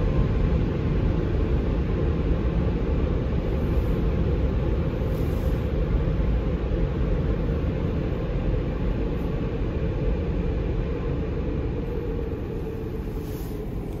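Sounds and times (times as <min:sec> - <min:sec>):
car wash dryer blowers: 0:00.0 - 0:14.0.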